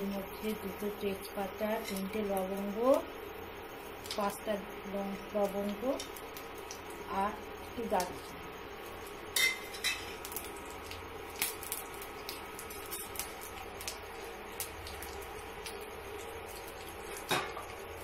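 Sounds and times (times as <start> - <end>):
induction cooktop hum: 0.0 - 18.0
spices popping in hot oil: 0.0 - 18.0.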